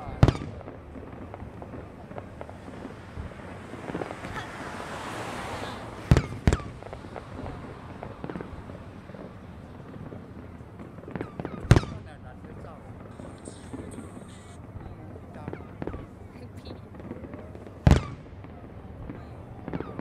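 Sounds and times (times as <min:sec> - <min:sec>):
firework pops: 0:00.0 - 0:05.0, 0:06.0 - 0:20.0
firework bangs: 0:00.0 - 0:20.0
firework crackling: 0:00.0 - 0:20.0.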